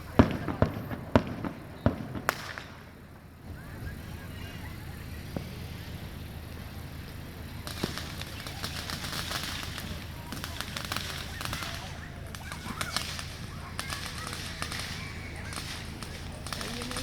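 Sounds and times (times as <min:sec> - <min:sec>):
crackling firework pops: 0:00.0 - 0:03.6, 0:05.2 - 0:17.0
fireworks bangs: 0:00.0 - 0:17.0.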